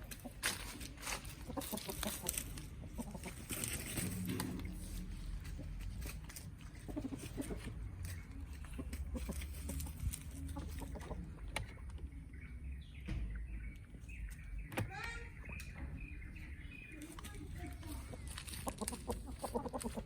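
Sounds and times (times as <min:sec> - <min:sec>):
chickens clucking: 0:00.0 - 0:20.0
low steady rumble: 0:02.1 - 0:20.0.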